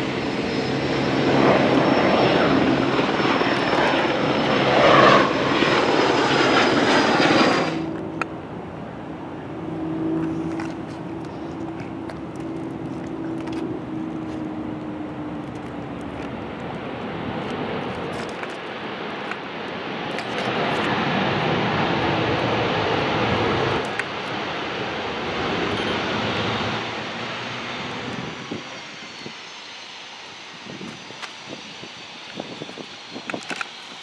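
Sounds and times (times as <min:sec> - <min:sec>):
jet aircraft passing: 0:00.0 - 0:34.0.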